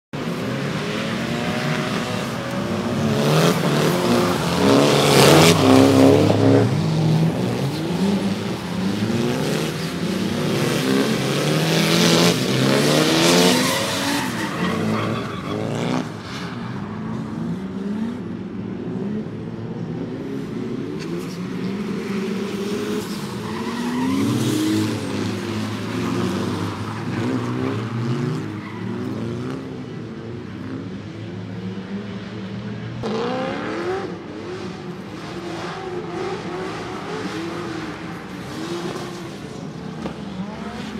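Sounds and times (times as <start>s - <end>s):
car engines revving: 0.1s - 40.9s.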